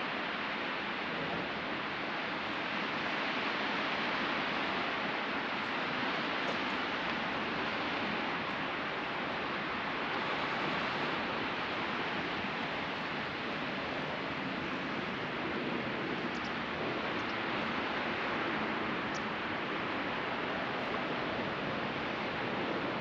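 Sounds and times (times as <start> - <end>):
ocean surf breaking: 0.8 - 23.0.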